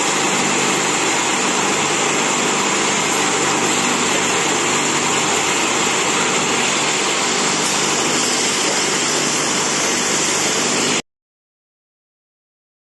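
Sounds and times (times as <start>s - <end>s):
loud even hiss: 0.0s - 11.0s
machine hum: 0.0s - 11.0s.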